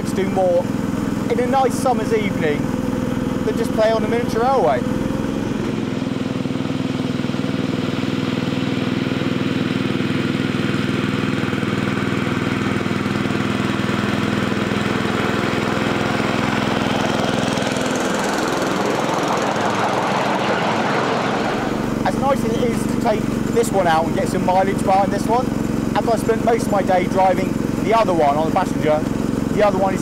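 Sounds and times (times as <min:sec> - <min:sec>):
rough engine noise: 0:00.0 - 0:30.0
small petrol engine running: 0:00.0 - 0:30.0.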